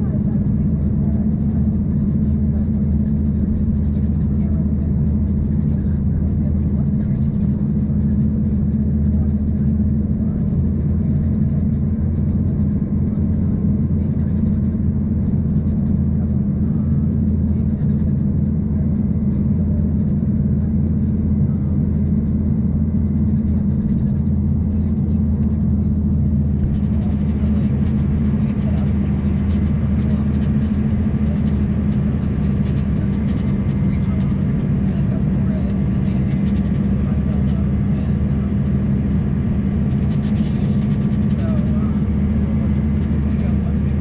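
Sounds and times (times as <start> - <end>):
airplane cabin drone: 0.0 - 44.0.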